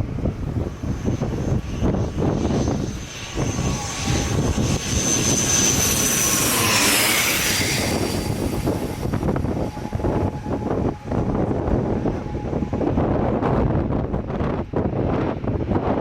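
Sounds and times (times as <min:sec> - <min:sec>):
jet airliner engines passing: 0:00.0 - 0:16.0
wind buffeting microphone: 0:00.0 - 0:16.0.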